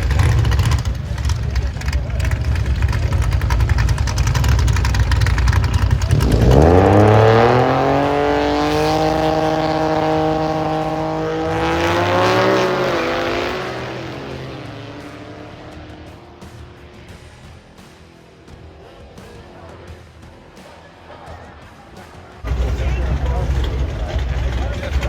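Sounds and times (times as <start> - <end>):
drag racing car engine revving: 0.0 - 25.0.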